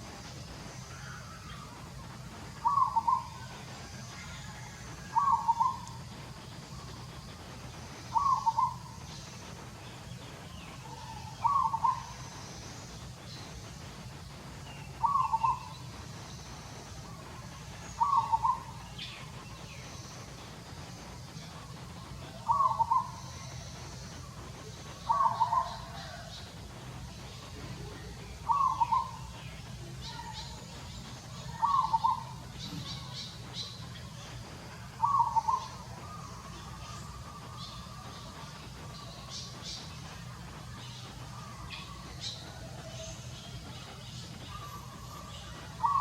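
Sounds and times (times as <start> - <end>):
bird calling: 0.0 - 14.0, 14.6 - 26.6, 27.3 - 46.0
steady low hum: 0.0 - 46.0.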